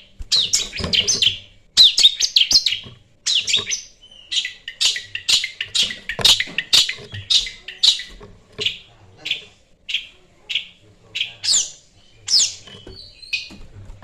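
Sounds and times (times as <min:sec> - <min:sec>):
bird chattering song: 0:00.0 - 0:13.6.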